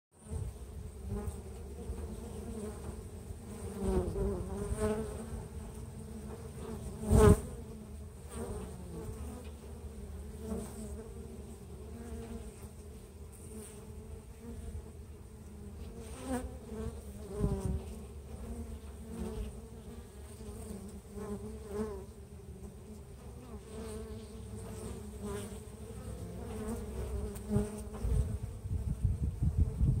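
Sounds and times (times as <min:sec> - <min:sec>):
honey bees buzzing: 0:00.2 - 0:28.8.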